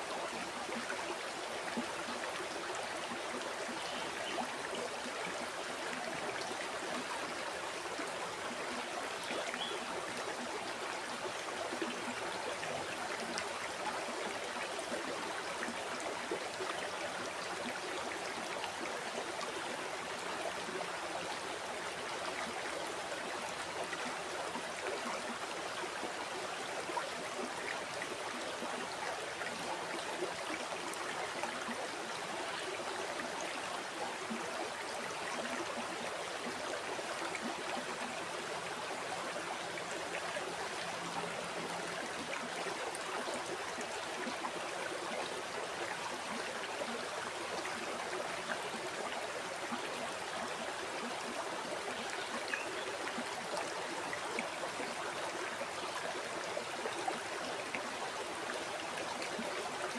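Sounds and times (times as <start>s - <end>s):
river water rushing and babbling: 0.0s - 59.9s.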